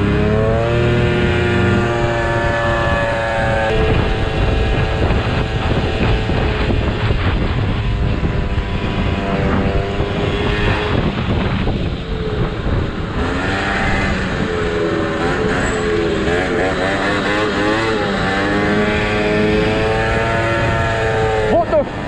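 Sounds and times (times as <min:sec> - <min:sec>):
motorcycle engine running: 0:00.0 - 0:22.0
wind noise over microphone: 0:00.0 - 0:22.0.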